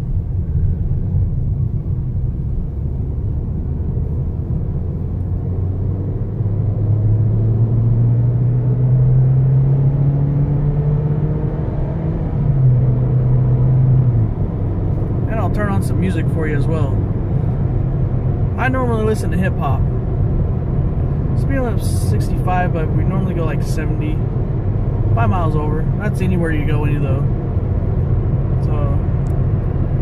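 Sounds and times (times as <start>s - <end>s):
car engine accelerating: 0.0s - 30.0s
road noise: 0.0s - 30.0s.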